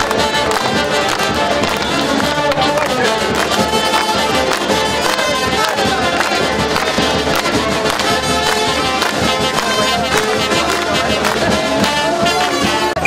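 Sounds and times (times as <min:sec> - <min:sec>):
brass band playing: 0:00.0 - 0:13.0
steady drum beat: 0:00.0 - 0:13.0.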